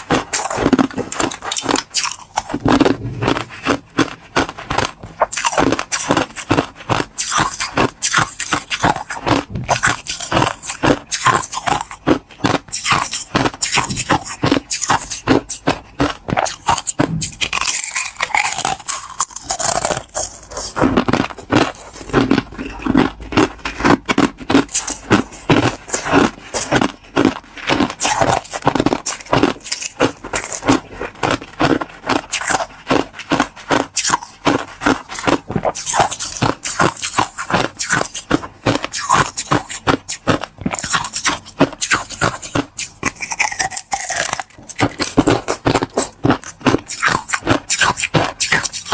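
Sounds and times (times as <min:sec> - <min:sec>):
crunching ice in mouth: 0:00.0 - 0:48.9.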